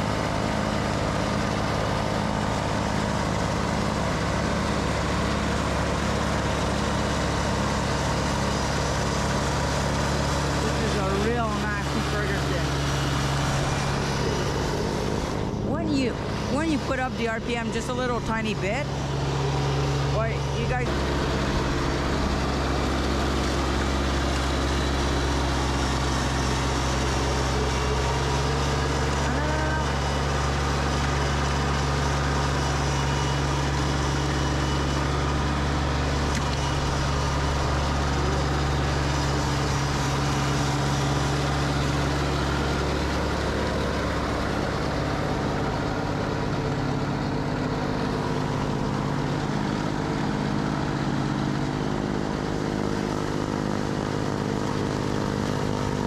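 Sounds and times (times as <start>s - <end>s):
snowblower through snow: 0.0s - 56.0s
tractor diesel engine running: 0.0s - 56.0s.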